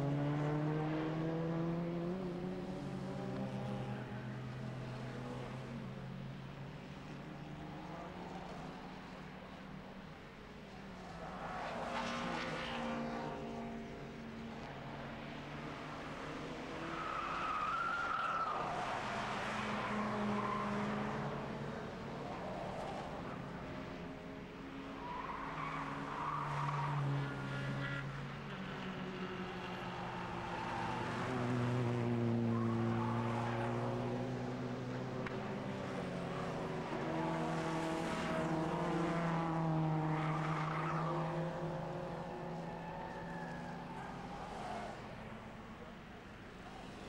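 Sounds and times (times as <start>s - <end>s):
race car engines passing: 0.0s - 47.0s.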